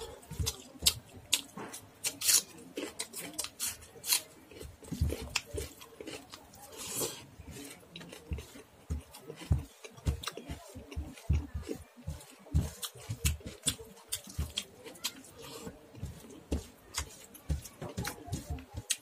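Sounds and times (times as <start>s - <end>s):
chewing thuds: 0.0s - 19.0s.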